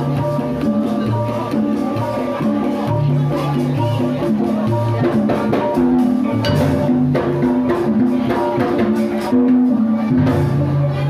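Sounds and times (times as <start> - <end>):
drumming: 0.0 - 11.0
pitched percussion melody: 0.0 - 11.0.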